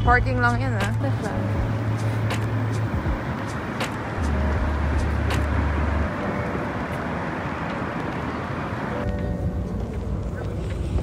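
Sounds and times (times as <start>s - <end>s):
heavy vehicle engine rumble: 0.0s - 11.0s
street traffic noise: 0.0s - 11.0s.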